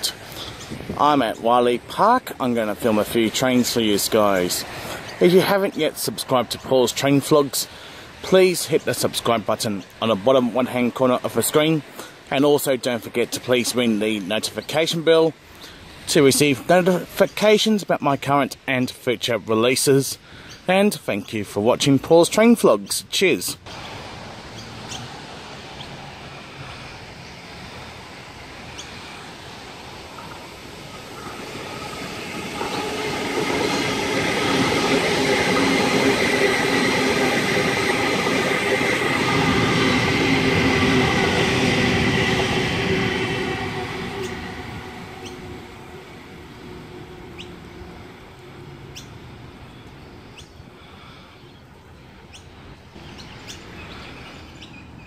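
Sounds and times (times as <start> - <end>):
electric train passing: 0.0 - 20.2, 21.5 - 55.0.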